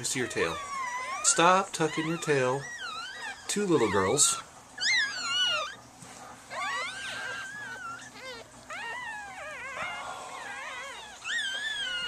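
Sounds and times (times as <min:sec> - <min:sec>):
puppies crying: 0:00.0 - 0:12.0.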